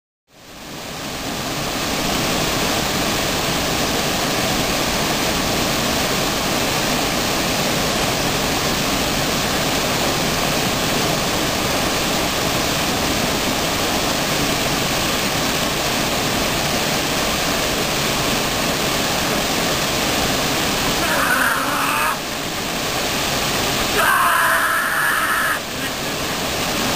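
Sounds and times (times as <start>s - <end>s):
waterfall pouring into pool: 0.4s - 26.9s.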